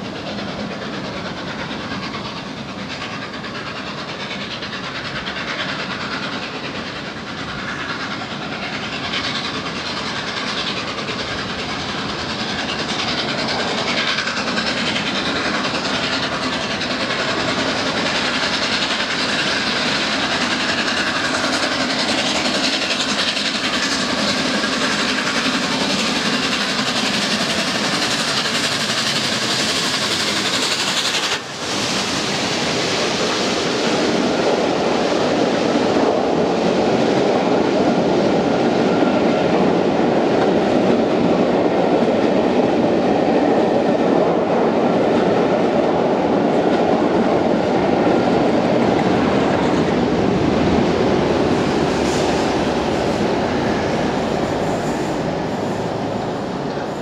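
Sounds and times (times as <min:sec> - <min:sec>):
steam locomotive accelerating: 0:00.0 - 0:57.0.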